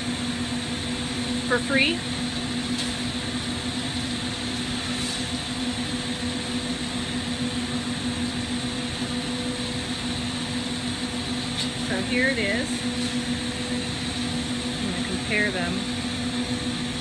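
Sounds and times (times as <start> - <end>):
shop ventilation: 0.0 - 17.0
torch flame rushing: 0.6 - 17.0.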